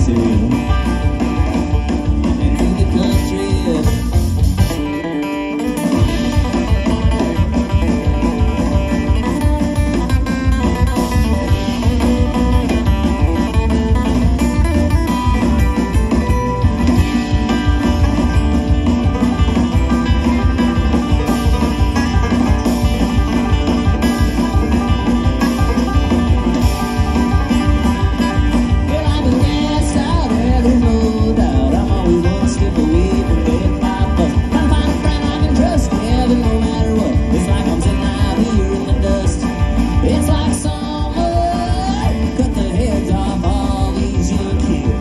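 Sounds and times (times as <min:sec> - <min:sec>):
acoustic guitar: 0:00.0 - 0:45.0
banjo: 0:00.0 - 0:45.0
bass and drums: 0:00.0 - 0:45.0.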